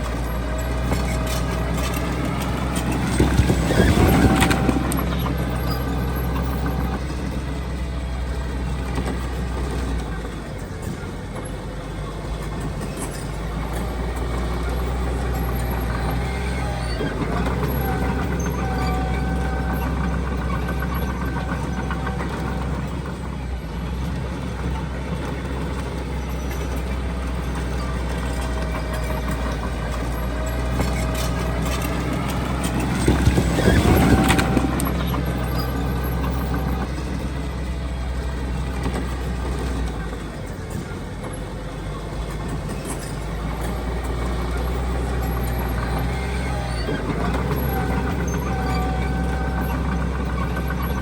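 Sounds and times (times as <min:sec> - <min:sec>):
diesel machinery engine drone: 0:00.0 - 0:51.0.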